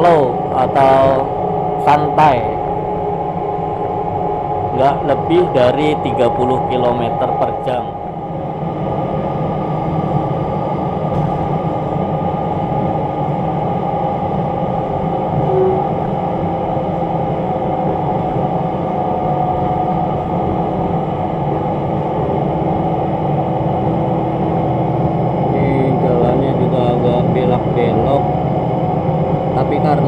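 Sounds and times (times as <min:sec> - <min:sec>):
railbus engine and running gear hum: 0:00.0 - 0:30.0.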